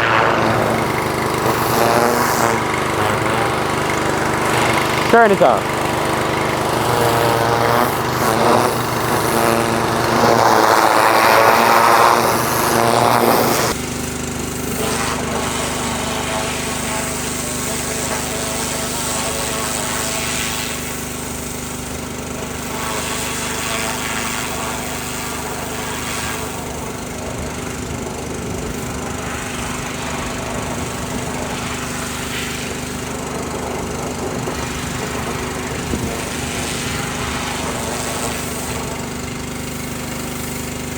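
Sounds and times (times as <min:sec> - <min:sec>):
pressure washer engine running: 0:00.0 - 0:40.9.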